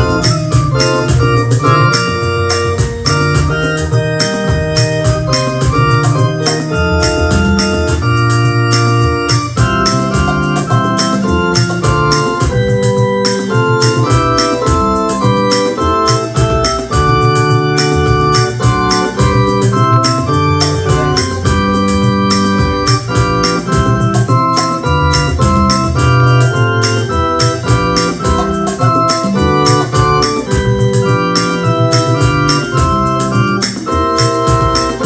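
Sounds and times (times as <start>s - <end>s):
electronic keyboard playing hymn chords: 0.0s - 35.0s.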